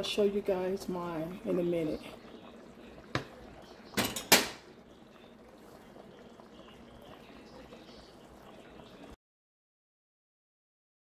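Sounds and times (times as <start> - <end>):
faint background noise: 0.0 - 9.2.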